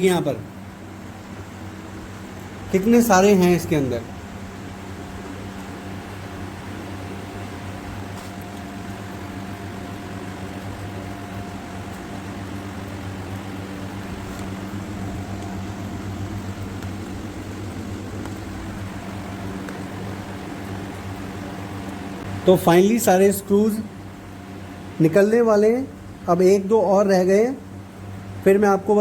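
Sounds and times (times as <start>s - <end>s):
mechanical hum with whine: 0.0s - 29.0s.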